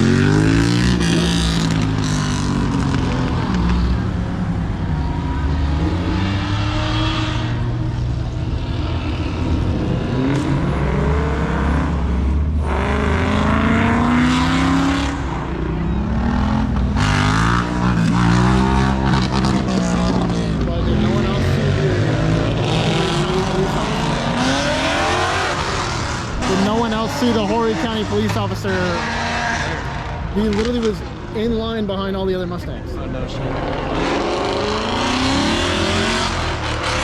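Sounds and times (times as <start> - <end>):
car engines revving up: 0.0 - 37.0
idling and passing cars rumble: 0.0 - 37.0.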